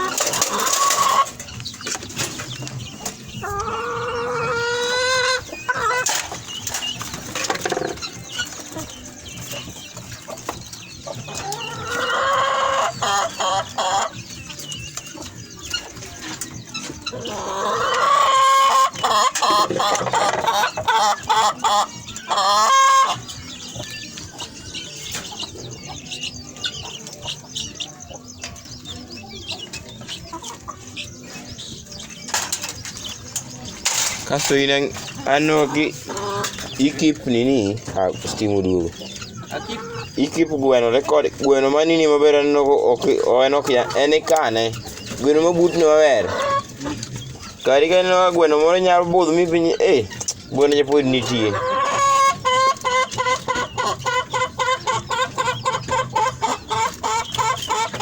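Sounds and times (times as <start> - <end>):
chickens clucking: 0.0 - 58.0
chickens drawn-out calls: 0.0 - 58.0.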